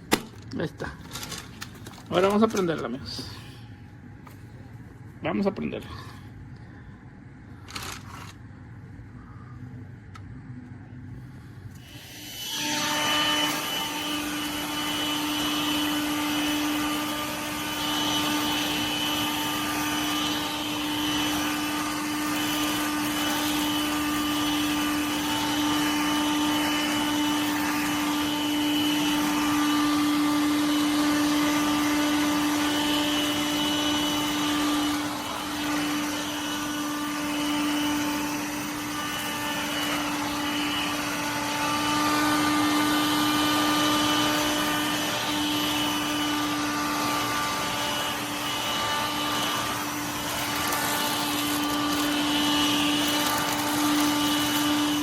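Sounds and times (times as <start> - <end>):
vacuum cleaner running: 0.0 - 3.6, 11.7 - 55.0.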